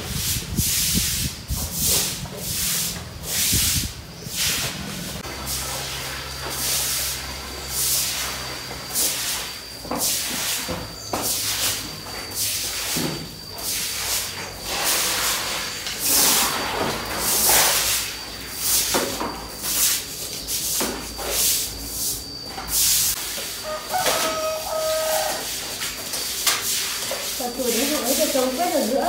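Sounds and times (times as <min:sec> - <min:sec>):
brooms scrubbing wet concrete: 0:00.0 - 0:29.0.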